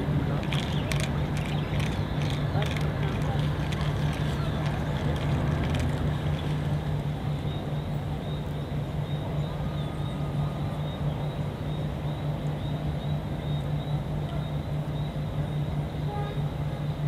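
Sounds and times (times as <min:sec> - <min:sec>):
low engine drone: 0:00.0 - 0:17.0
outdoor noise: 0:00.0 - 0:17.0.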